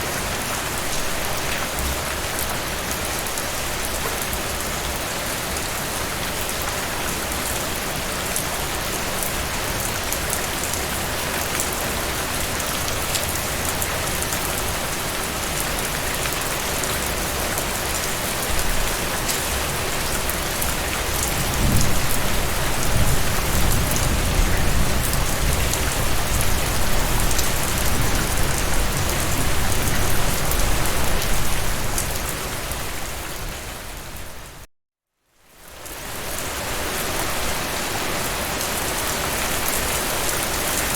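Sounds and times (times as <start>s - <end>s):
steady rain falling: 0.0s - 34.7s, 35.4s - 40.9s.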